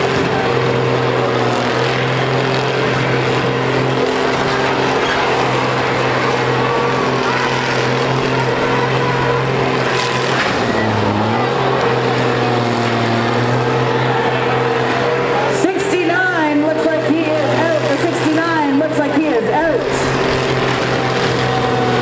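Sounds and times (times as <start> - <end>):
combine harvester diesel engines: 0.0 - 22.0.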